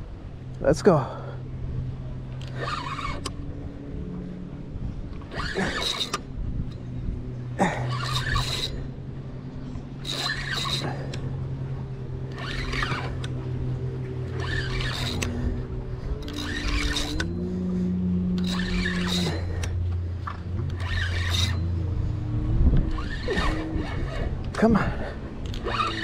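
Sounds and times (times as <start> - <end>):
steady low hum: 0.0 - 26.0
fishing reel cranking: 2.3 - 4.1, 5.1 - 26.0.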